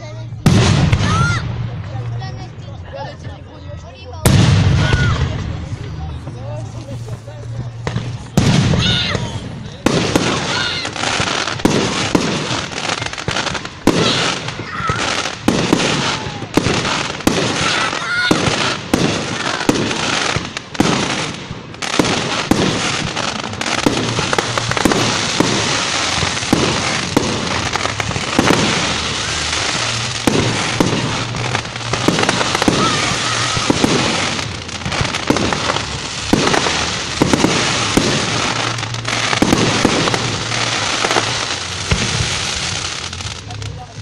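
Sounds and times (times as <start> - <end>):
fireworks crackling: 0.0 - 44.0
fireworks bangs: 0.3 - 44.0.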